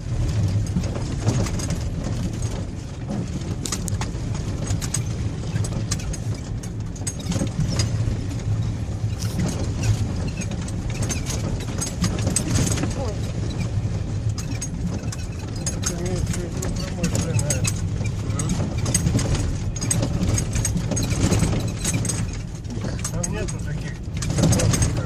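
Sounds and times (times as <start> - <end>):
car engine and tyres rumbling: 0.0 - 25.0
small clicks and rattles: 0.2 - 25.0.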